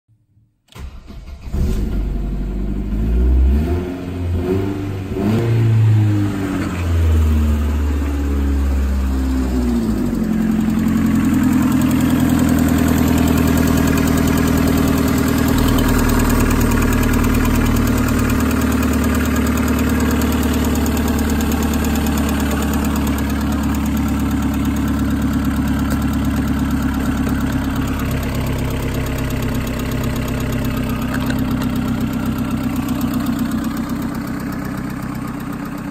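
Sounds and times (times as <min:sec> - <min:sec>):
car engine starting and idling: 0:00.7 - 0:35.9.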